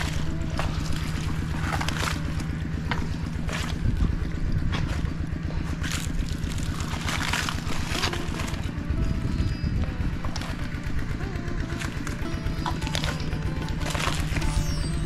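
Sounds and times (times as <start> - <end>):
water splashing: 0.0 - 9.4, 10.1 - 15.0
small engine running: 0.0 - 15.0.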